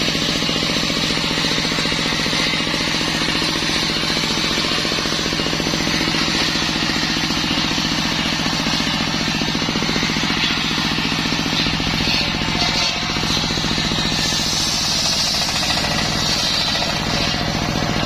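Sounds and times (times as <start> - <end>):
circular sawmill cutting wood: 0.0 - 18.0.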